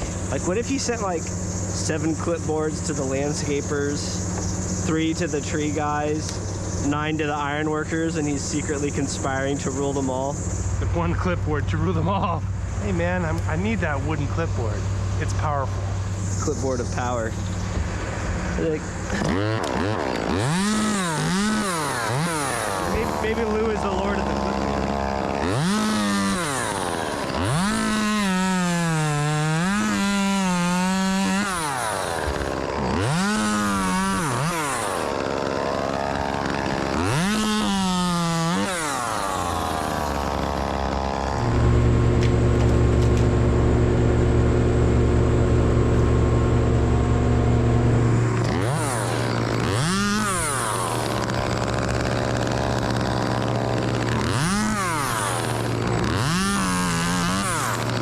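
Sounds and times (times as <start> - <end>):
low engine drone: 0.0 - 38.2, 39.9 - 58.0
chainsaw revving: 0.0 - 58.0.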